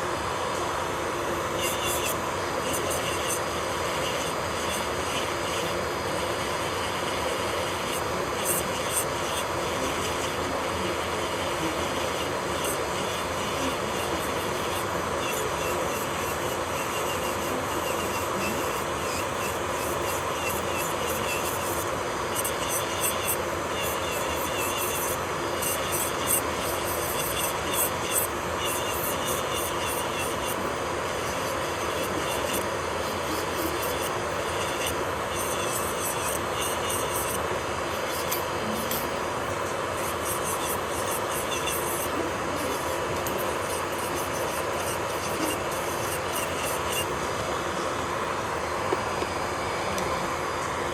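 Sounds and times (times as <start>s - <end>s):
nail drill whirring: 0.0s - 50.6s
dust collector humming: 0.0s - 50.9s.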